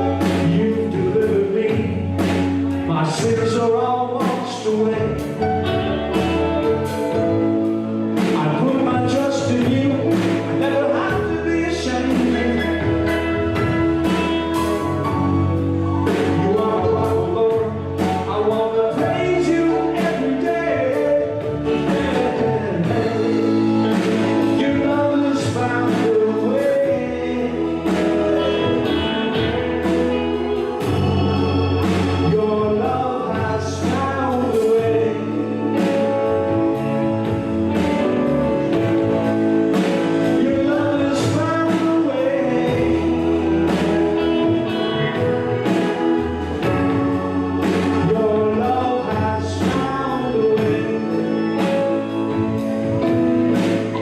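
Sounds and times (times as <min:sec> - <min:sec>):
gospel choir singing with instruments: 0:04.9 - 0:54.0.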